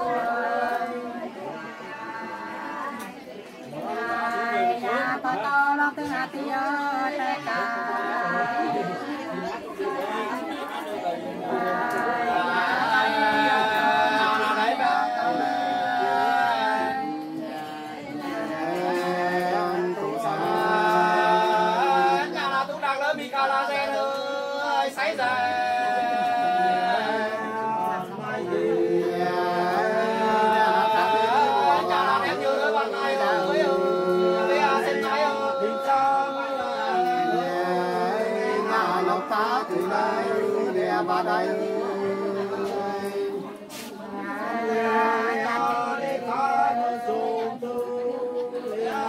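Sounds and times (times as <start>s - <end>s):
unaccompanied folk singing: 0.0s - 49.0s.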